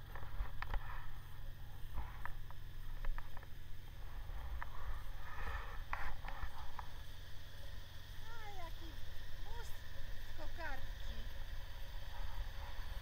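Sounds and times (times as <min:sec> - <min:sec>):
wind and engine rumble: 0:00.0 - 0:13.0.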